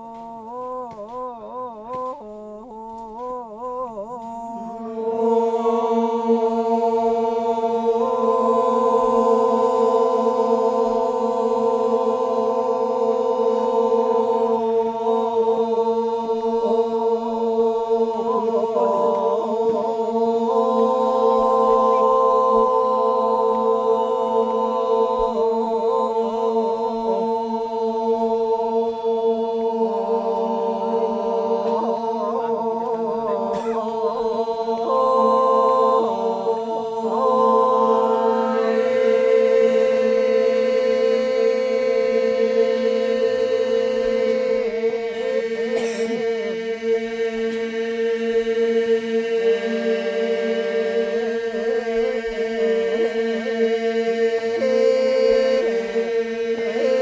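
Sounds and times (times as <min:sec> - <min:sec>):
soft wavering voice: 0:00.0 - 0:47.7, 0:49.6 - 0:57.0
men chanting in held notes: 0:00.0 - 0:57.0.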